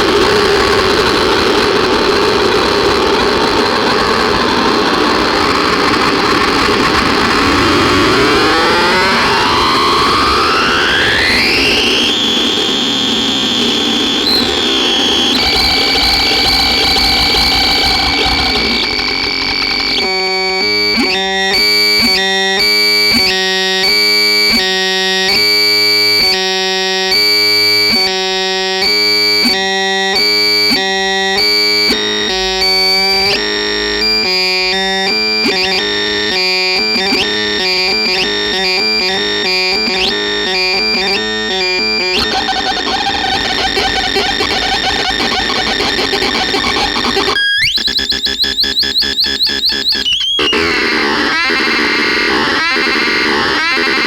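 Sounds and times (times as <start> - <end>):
harsh noisy synthesizer: 0.0 - 54.0.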